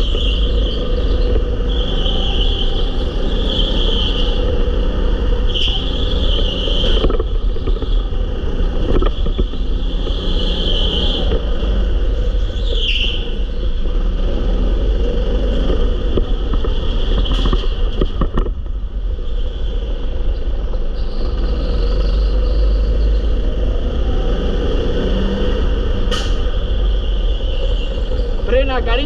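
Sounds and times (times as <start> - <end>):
go-kart engine rumble and whine: 0.0 - 29.0.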